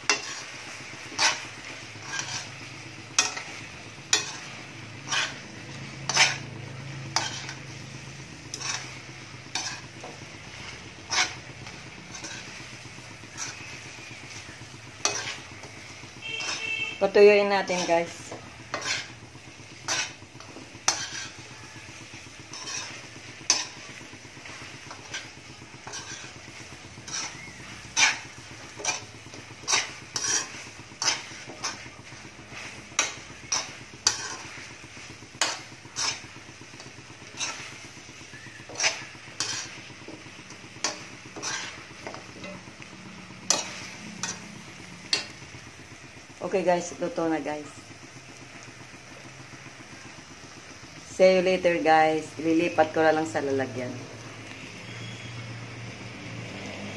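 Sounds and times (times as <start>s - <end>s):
metal spoon scraping a wok: 0.0s - 45.7s
low sizzle: 0.0s - 56.9s.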